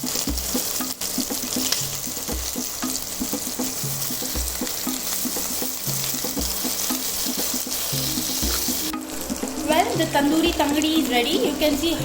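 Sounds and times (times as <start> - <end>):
background music with bass line: 0.0 - 12.0
chicken sizzling in oil: 0.0 - 12.0.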